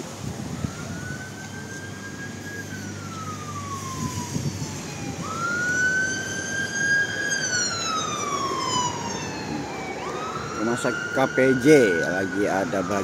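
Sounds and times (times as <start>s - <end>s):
siren wailing: 0.1s - 13.0s.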